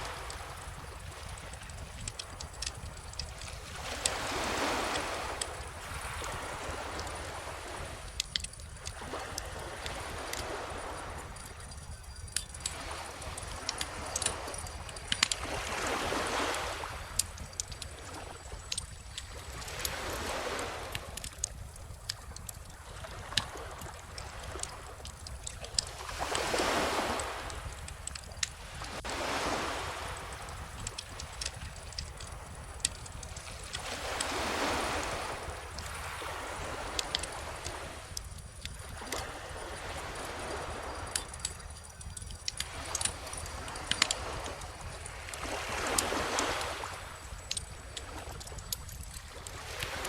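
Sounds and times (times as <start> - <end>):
bonfire crackling and popping: 0.0 - 50.0
ocean waves washing: 0.0 - 50.0.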